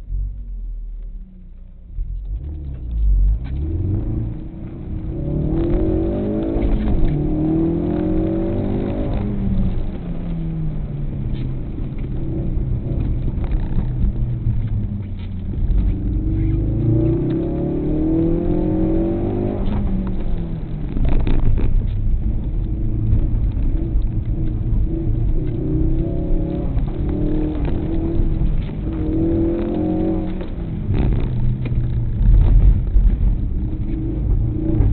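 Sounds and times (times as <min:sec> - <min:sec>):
car engine accelerating hard: 0:00.0 - 0:34.9.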